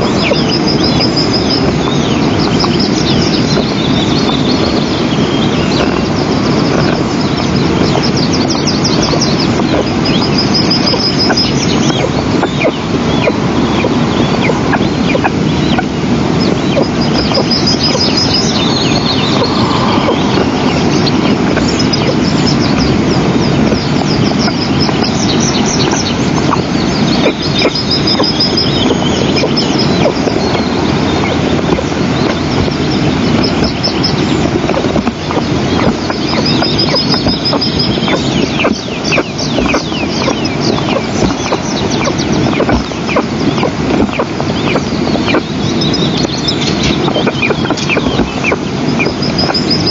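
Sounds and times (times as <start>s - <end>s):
eagle chicks begging calls: 0.0s - 49.9s
steady loud rushing noise: 0.0s - 49.9s.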